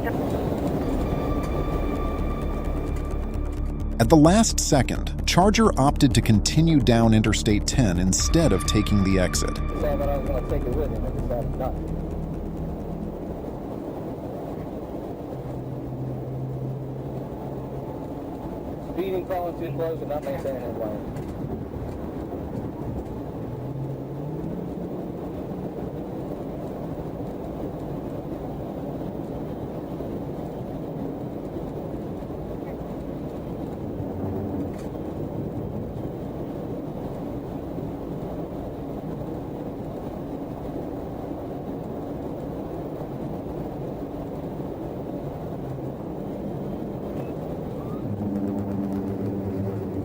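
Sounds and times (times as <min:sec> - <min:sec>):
car road and engine noise: 0:00.0 - 0:50.0.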